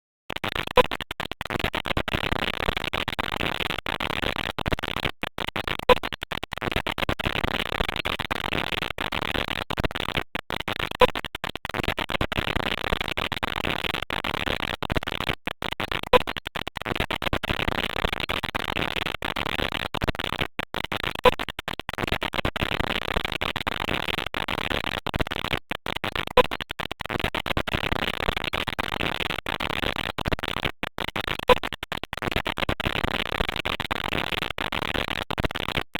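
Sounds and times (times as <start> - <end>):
glitchy crackling noise: 0.3 - 35.9.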